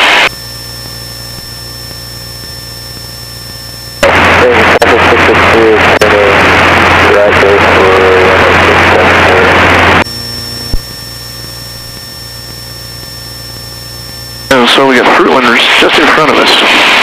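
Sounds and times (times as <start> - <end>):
airplane engine and propeller drone: 0.0 - 17.0
quiet hum with high whine: 0.0 - 17.0.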